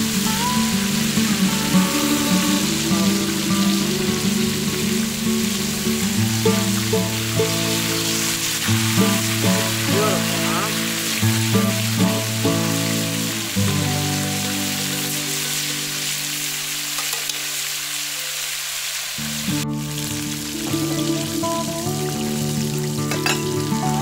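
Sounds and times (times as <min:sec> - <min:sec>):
background music: 0:00.0 - 0:16.7, 0:19.7 - 0:24.0
chicken deep-frying in oil: 0:00.0 - 0:24.0.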